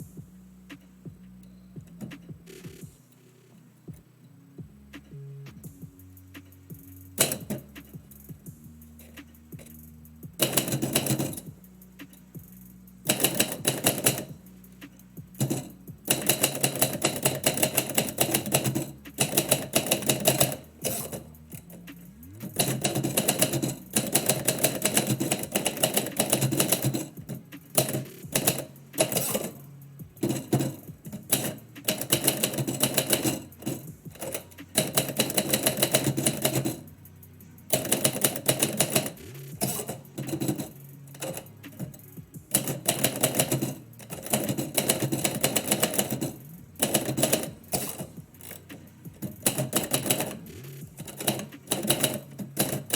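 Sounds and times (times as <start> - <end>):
typewriter keys clacking: 6.5 - 52.9.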